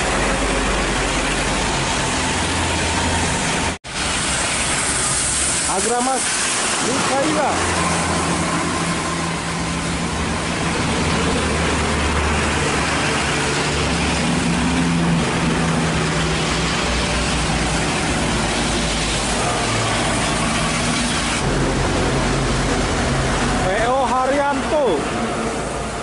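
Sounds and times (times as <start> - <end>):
bus engine running: 0.0 - 5.7, 6.4 - 26.0
heavy rain hissing: 0.0 - 26.0
tyre spray off wet road: 0.0 - 26.0.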